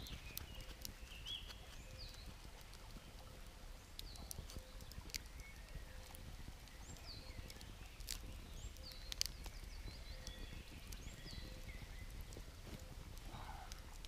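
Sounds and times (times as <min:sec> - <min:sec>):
campfire crackling and popping: 0:00.0 - 0:14.0
small birds chirping: 0:00.0 - 0:14.0.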